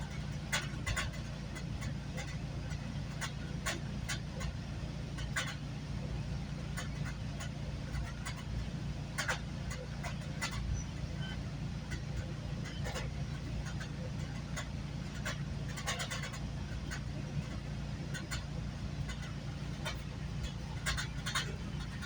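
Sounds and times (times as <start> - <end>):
sharp clicks and rattles: 0.0 - 22.0
train rumbling: 0.0 - 22.0.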